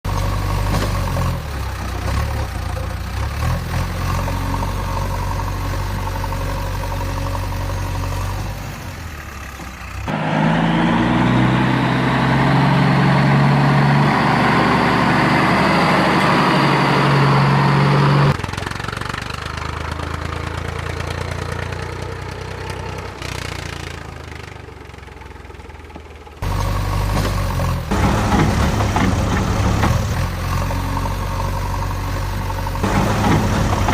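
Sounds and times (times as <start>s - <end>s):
vehicle engine running: 0.0s - 33.9s.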